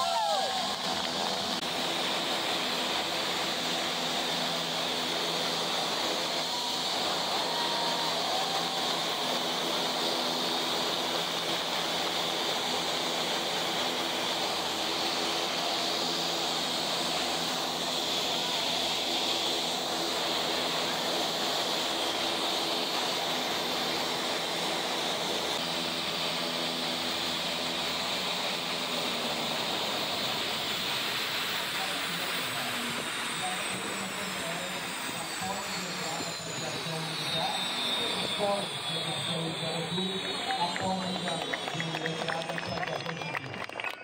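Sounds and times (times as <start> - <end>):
low propeller hum: 0.0 - 44.0
turboprop engines running: 0.0 - 44.0.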